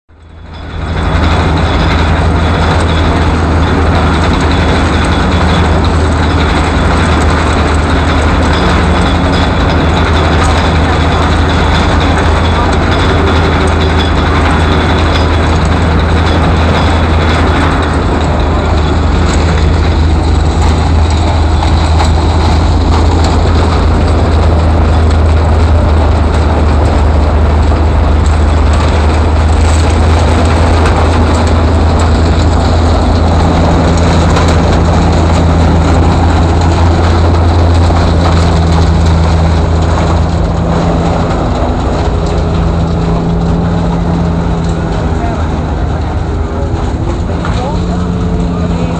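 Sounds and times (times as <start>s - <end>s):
corn shredder mechanical drone: 0.1s - 48.9s.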